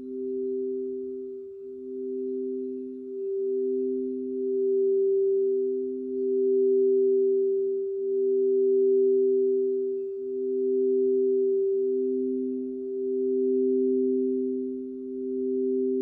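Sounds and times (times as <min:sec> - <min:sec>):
singing bowls two-note drone: 0:00.0 - 0:16.0.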